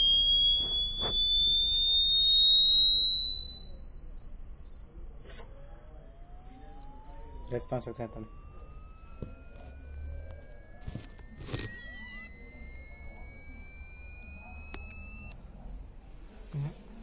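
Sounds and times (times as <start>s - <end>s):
rising electronic test tone: 0.0s - 15.4s.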